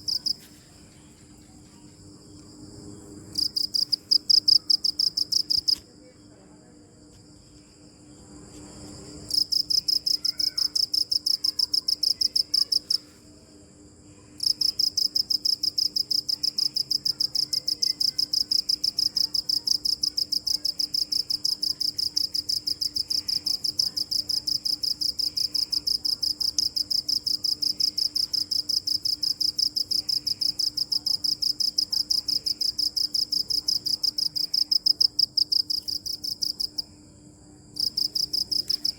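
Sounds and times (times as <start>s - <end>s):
cricket chirping: 0.0s - 6.6s, 7.3s - 13.2s, 14.0s - 38.9s.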